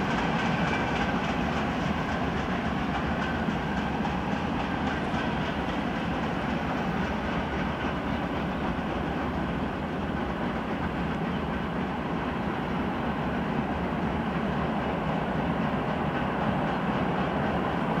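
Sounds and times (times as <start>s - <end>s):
train wagons rumbling: 0.0s - 18.0s.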